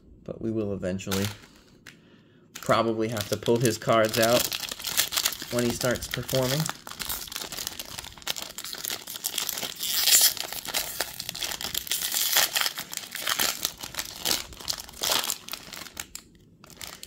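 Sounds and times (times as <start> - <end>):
foil wrapper tearing and crinkling: 2.6 - 17.0.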